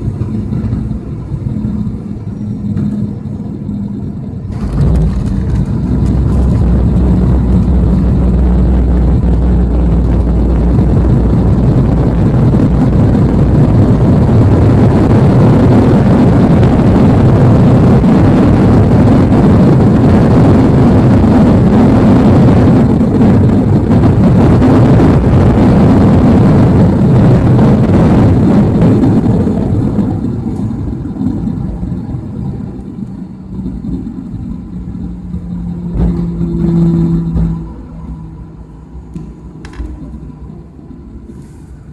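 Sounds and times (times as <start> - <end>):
airliner engine rumble in cabin: 0.0 - 41.9.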